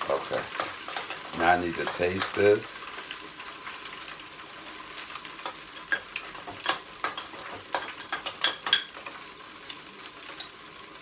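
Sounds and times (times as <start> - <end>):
oil sizzling while deep-frying: 0.0 - 11.0.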